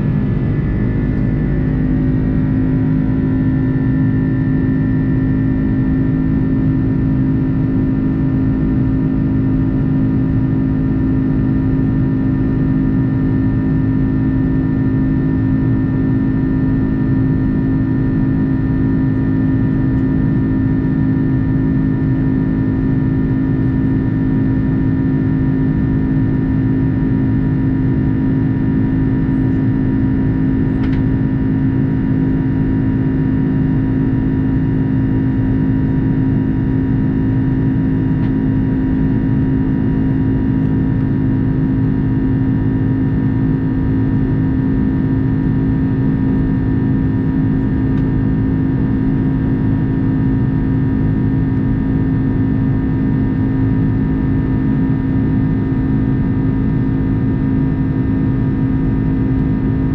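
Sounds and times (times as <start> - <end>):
high engine whine: 0.0 - 59.9
jet engines droning in cabin: 0.0 - 59.9.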